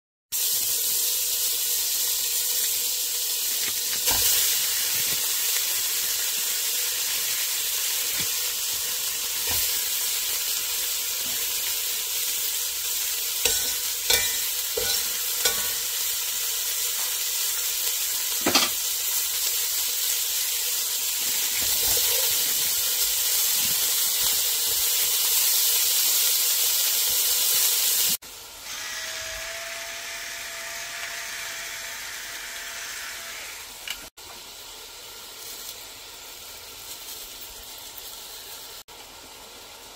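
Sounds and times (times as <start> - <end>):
meat sizzling in a pot: 0.3 - 39.9.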